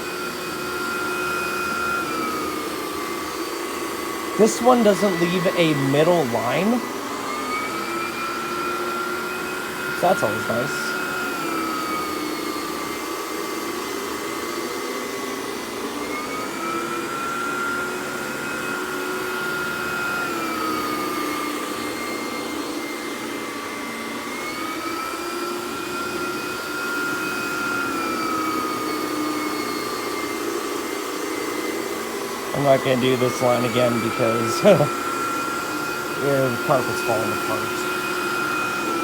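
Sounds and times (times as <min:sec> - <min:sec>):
vacuum cleaner whine on carpet: 0:00.0 - 0:39.0.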